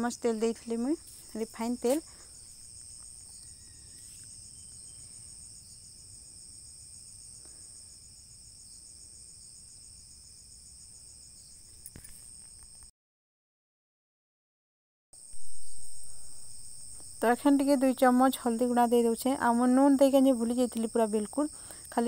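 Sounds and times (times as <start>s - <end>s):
crickets chirping: 0.0s - 12.9s, 15.2s - 22.0s.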